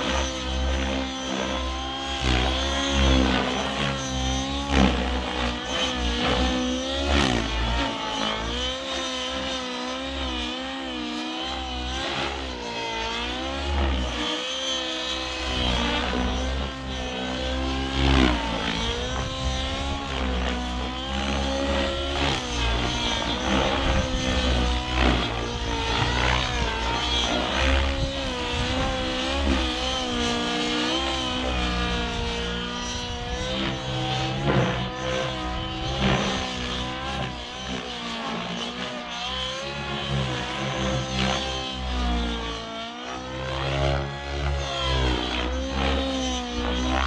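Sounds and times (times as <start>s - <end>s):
helicopter rotor blades: 0.0s - 47.0s
model helicopter engine: 0.0s - 47.0s.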